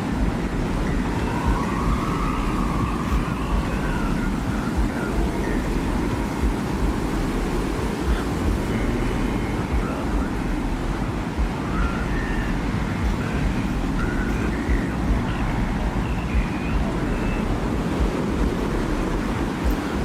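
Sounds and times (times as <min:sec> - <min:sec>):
faint wavering whistles: 0:00.0 - 0:20.0
low rumbling wind: 0:00.0 - 0:20.0.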